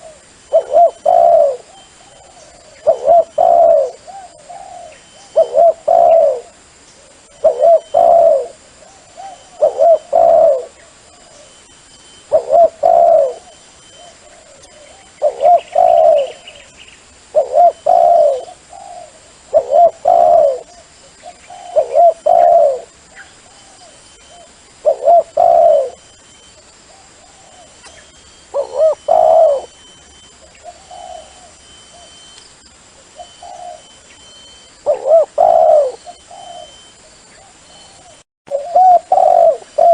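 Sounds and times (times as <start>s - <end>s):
dove cooing: 0.0s - 11.6s, 12.2s - 16.7s, 17.3s - 32.3s, 33.0s - 39.9s.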